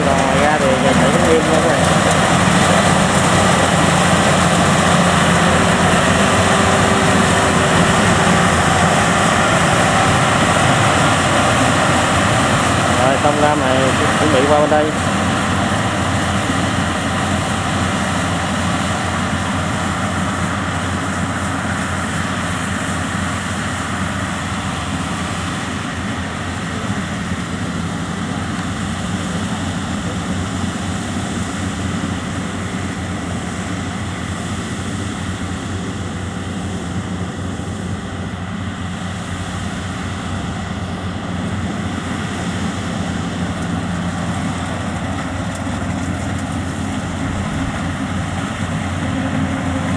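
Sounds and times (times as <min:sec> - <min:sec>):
combine harvester running: 0:00.0 - 0:49.9.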